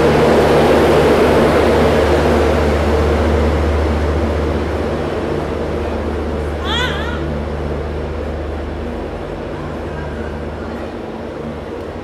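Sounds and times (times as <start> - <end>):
diesel generator droning: 0.0 - 12.0.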